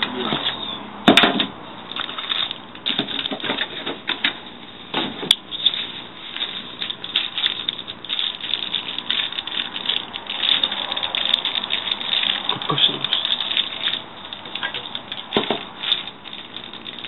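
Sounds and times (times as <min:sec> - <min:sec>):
packaging crinkling and rustling: 0:01.9 - 0:17.0.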